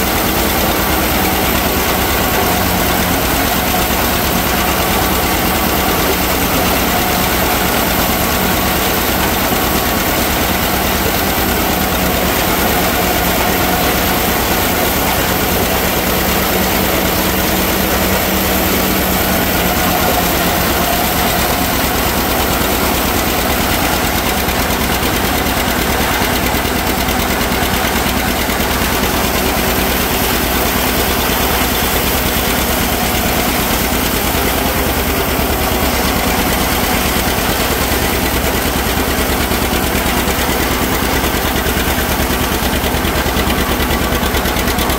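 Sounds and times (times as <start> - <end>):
tractor and harvester drone: 0.0 - 44.9.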